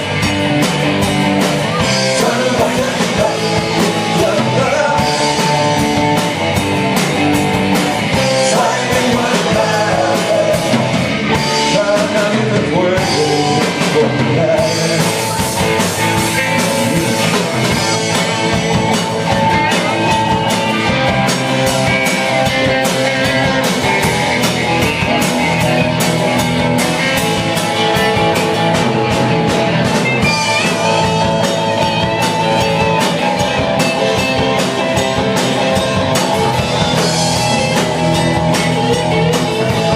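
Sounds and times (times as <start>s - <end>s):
rock band music: 0.0s - 39.9s.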